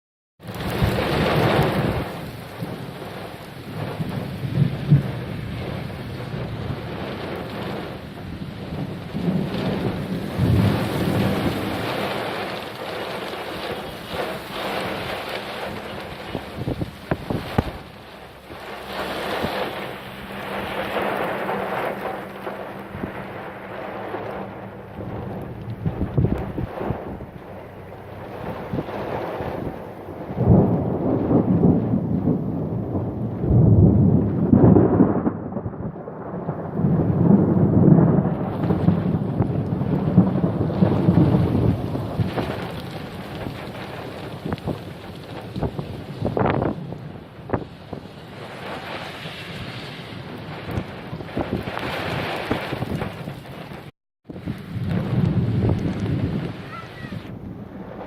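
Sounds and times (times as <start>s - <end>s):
heavy rain falling: 0.4s - 58.0s
deep rumble: 0.5s - 58.0s.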